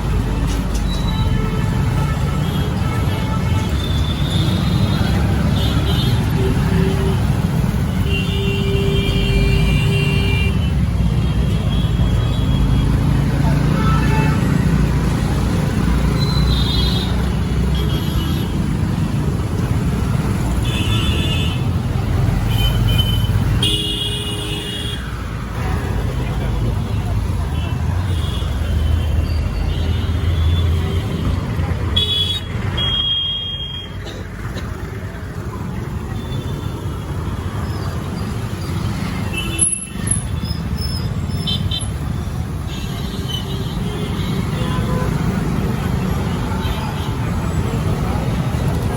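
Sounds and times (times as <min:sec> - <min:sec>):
traffic engines rumbling: 0:00.0 - 0:48.9.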